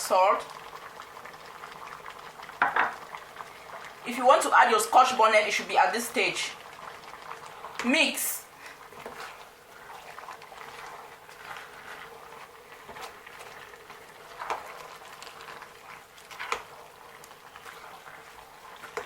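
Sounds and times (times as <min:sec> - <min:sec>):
soup bubbling in a pot: 0:00.0 - 0:19.0.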